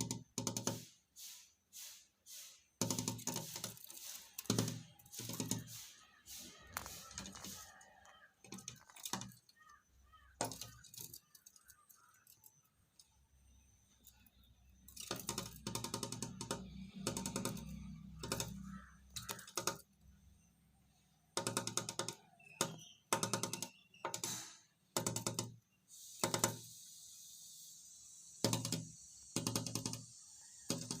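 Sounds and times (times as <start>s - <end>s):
bird pecking at window glass: 0.0s - 0.9s, 2.8s - 20.0s, 21.3s - 26.8s, 28.3s - 31.0s.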